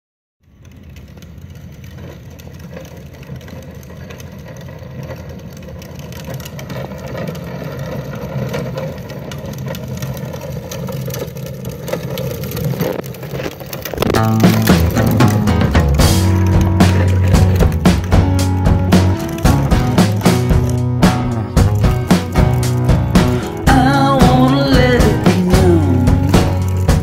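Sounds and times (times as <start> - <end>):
plastic toy wheels rumbling on pavement: 0.4 - 27.0
toy truck clicks and rattles: 0.4 - 27.0.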